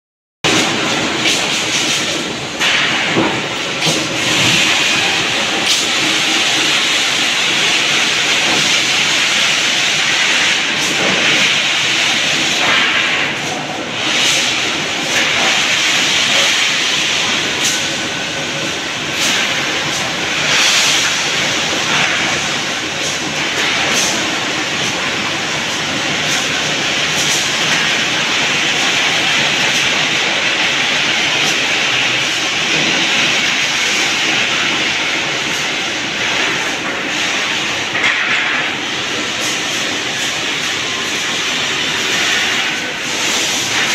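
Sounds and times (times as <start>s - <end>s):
loud steady hiss: 0.5s - 43.9s.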